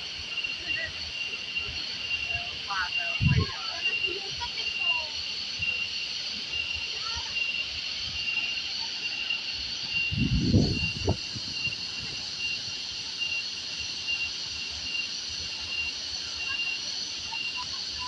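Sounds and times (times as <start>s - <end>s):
insect trill: 0.0s - 18.0s.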